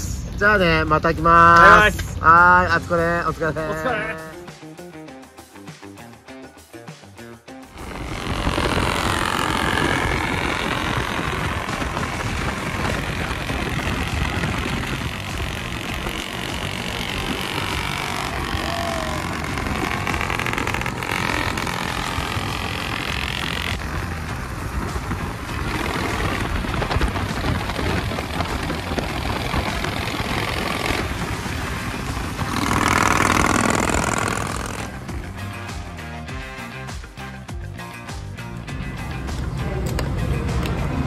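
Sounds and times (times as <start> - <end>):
road and wind noise: 0.0 - 5.1, 7.5 - 41.0
motorcycle engine rumble: 7.7 - 41.0.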